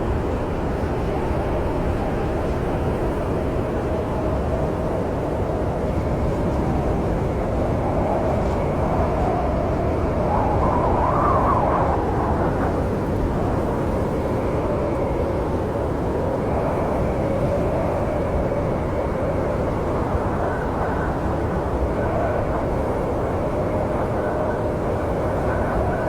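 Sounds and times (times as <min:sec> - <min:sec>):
snowstorm wind howling: 0:00.0 - 0:26.0.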